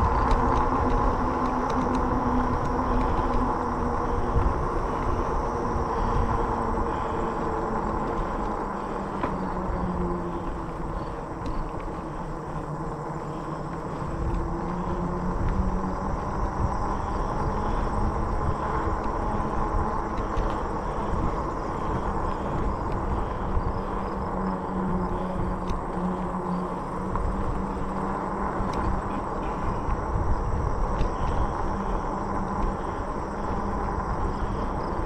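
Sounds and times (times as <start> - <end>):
bike tires rolling rumble: 0.0 - 35.0.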